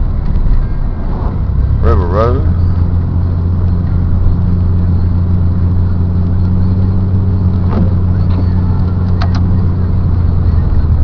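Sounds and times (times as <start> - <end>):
car engine and tyres droning: 0.0 - 11.0.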